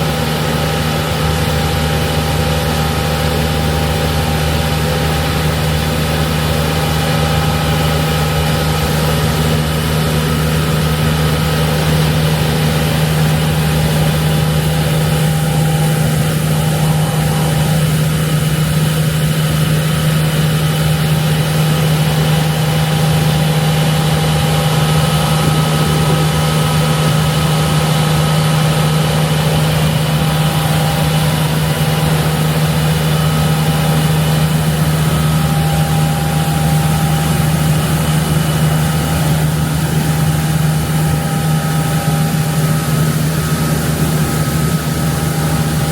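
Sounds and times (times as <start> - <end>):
diesel machinery droning: 0.0 - 45.9.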